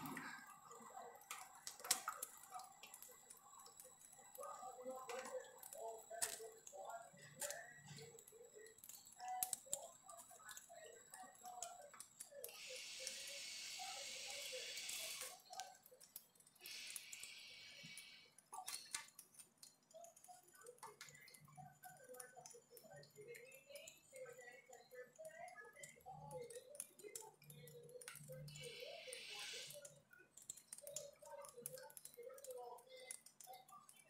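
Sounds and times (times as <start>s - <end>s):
faint scattered clicks: 0.0s - 34.0s.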